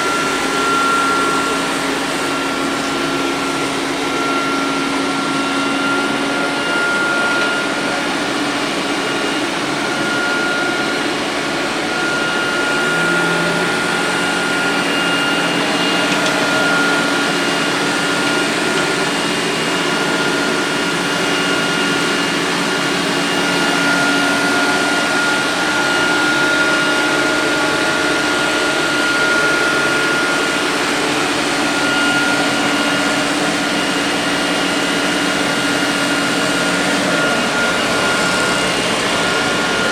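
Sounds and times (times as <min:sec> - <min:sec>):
robot vacuum cleaner whirring: 0:00.0 - 0:39.9.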